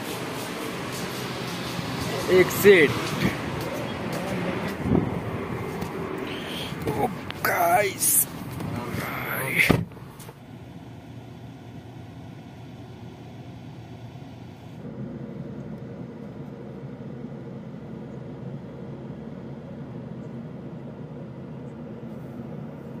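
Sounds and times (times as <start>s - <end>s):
car engine and tyres rumbling: 0.0s - 23.0s
traffic noise: 0.0s - 23.0s.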